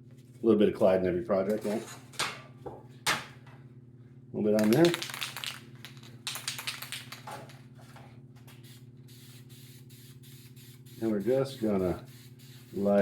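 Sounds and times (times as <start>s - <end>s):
exhaust fan humming: 0.0s - 13.0s.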